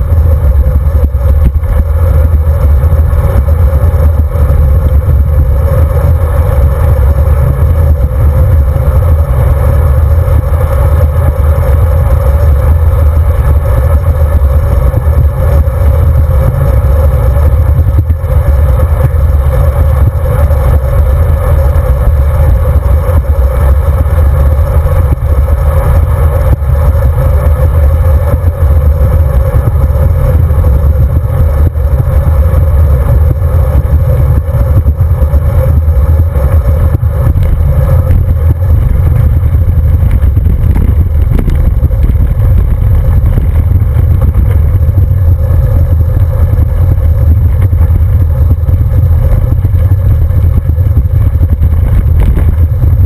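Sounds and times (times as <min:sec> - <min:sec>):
bicycle tyre and frame noise: 0:00.0 - 0:53.0
wind rumble on microphone: 0:00.0 - 0:53.0
bike rattling on gravel: 0:00.1 - 0:53.0.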